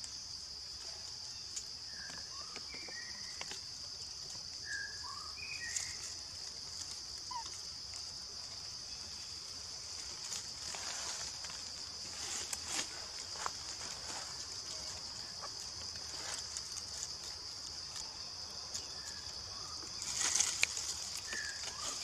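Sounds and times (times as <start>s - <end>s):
forest insects droning: 0.0s - 22.0s
leaves rustling: 0.0s - 22.0s.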